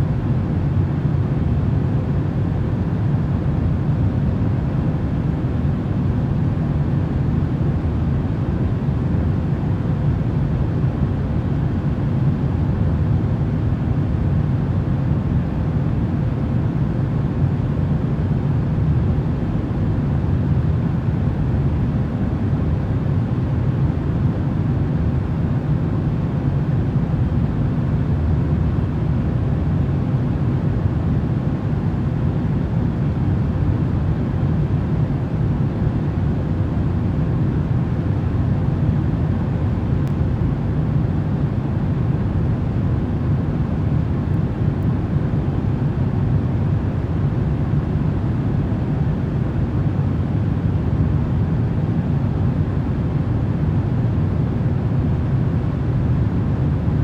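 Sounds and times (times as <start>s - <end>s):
airplane cabin drone: 0.0s - 57.0s
faint steady hums: 0.0s - 57.0s.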